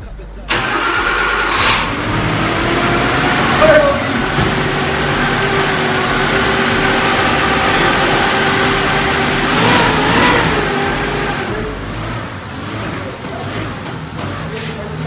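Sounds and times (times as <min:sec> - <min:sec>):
petrol engine running: 0:00.5 - 0:15.0.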